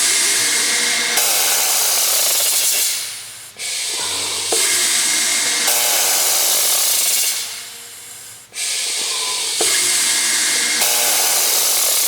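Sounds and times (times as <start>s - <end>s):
pneumatic cylinder hiss: 0.0s - 12.0s.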